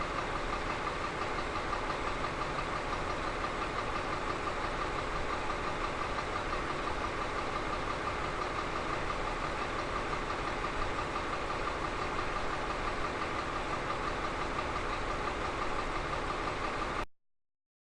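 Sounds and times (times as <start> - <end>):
diesel engine running: 0.0 - 17.1.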